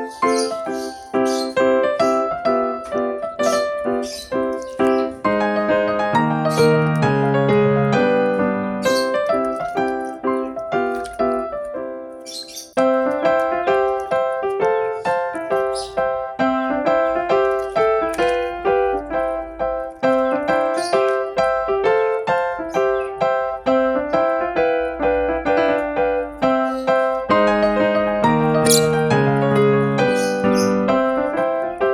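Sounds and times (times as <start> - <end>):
piano music: 0.0 - 31.9.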